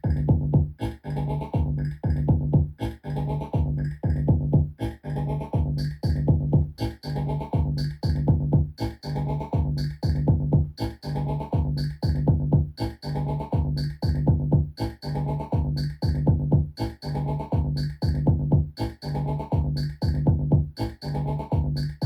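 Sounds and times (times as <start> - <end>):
kick drums and hi-hats: 0.0 - 4.8, 5.5 - 22.0.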